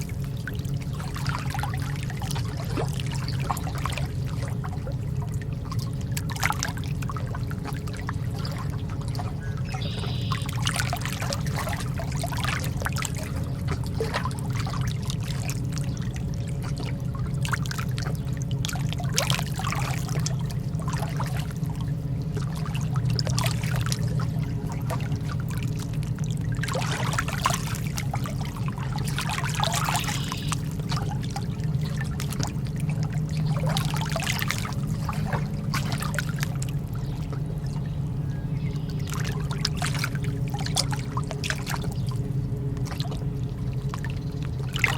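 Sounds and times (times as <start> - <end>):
lake water lapping: 0.0 - 44.9
steady low hum: 0.0 - 44.9.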